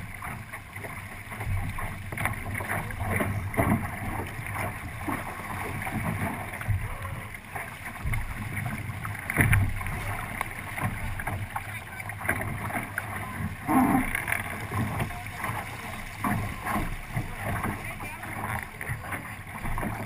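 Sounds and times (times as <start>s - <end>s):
water rushing along hull: 0.0s - 20.0s
water slapping against hull: 0.0s - 20.0s.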